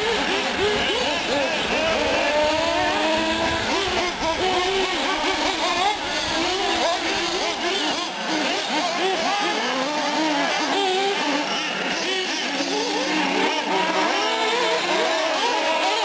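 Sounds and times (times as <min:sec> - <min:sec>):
rc car engines revving: 0:00.0 - 0:16.0.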